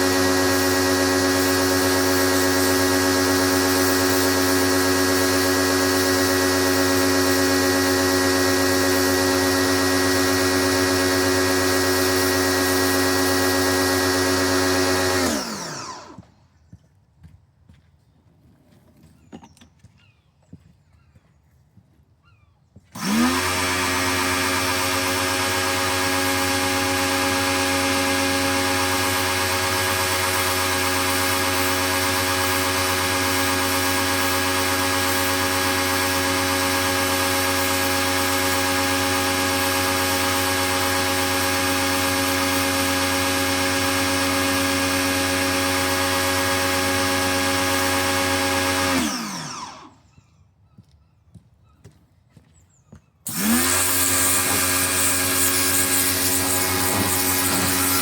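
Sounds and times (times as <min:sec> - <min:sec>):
pressure washer motor whining: 0:00.0 - 0:16.4, 0:22.9 - 0:50.1, 0:53.2 - 0:58.0.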